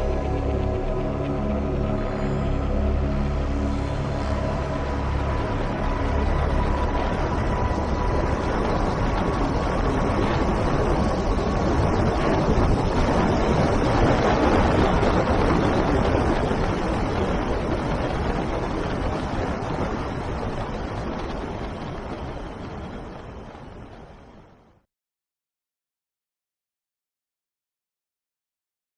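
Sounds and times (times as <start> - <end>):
rushing wind: 0.0 - 24.7.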